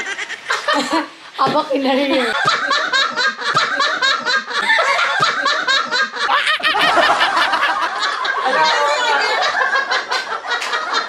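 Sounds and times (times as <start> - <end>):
people laughing along: 0.0 - 1.2, 1.9 - 11.0
woman laughing hard: 0.0 - 1.2, 1.9 - 11.0.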